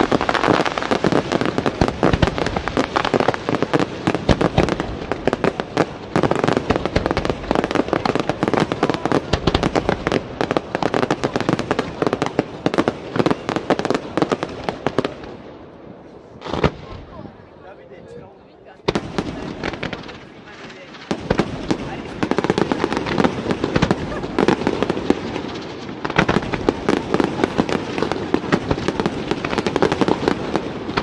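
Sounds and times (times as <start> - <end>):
fireworks launching and bursting: 0.0 - 15.5, 16.4 - 17.4, 18.8 - 31.0.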